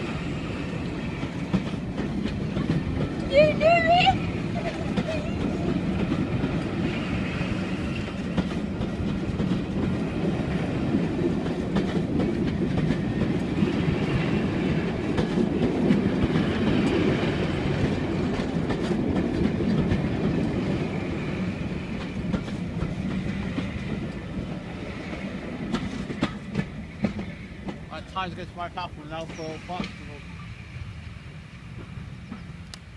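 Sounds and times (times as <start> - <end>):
diesel locomotive engines running: 0.0 - 32.9.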